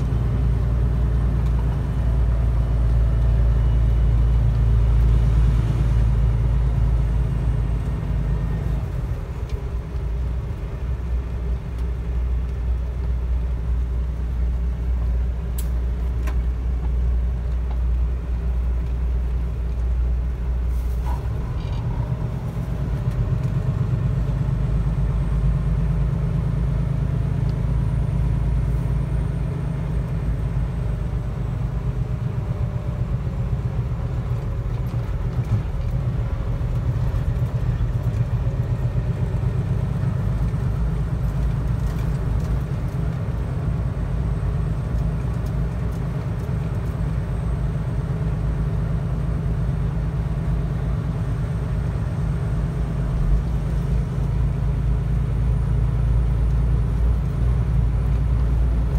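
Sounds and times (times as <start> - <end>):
road noise inside cab: 0.0 - 58.9
truck diesel engine droning: 0.0 - 58.9.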